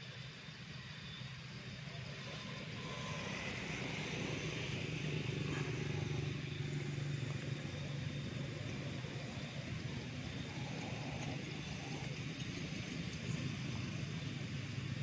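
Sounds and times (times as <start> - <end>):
vehicle engine humming: 0.6 - 15.0.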